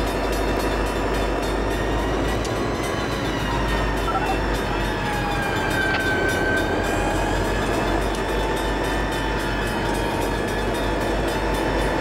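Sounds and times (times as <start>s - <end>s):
diesel locomotive engines: 0.0s - 12.0s
wheels on rails: 0.0s - 12.0s.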